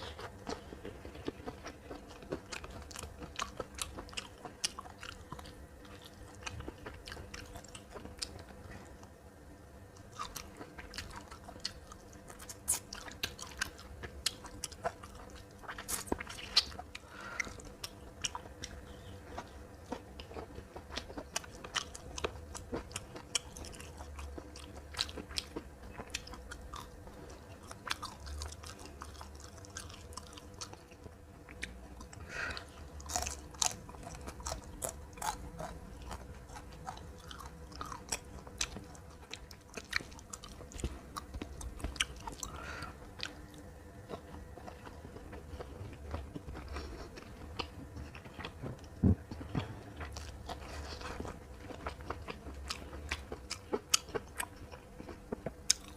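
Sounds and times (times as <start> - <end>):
person chewing crunchy food: 0.0 - 9.1, 9.9 - 55.9.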